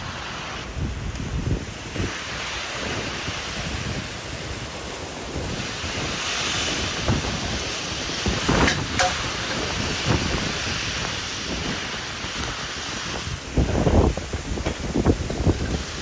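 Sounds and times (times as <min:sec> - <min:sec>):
wind buffeting microphone: 0:00.0 - 0:16.0
wind gusting: 0:00.0 - 0:16.0.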